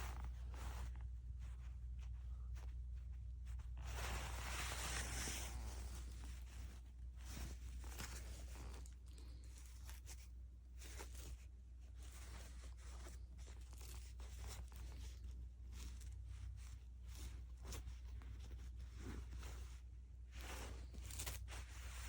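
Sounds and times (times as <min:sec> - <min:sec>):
rustling and crinkling: 0:00.0 - 0:22.0
steady low hum: 0:00.0 - 0:22.0.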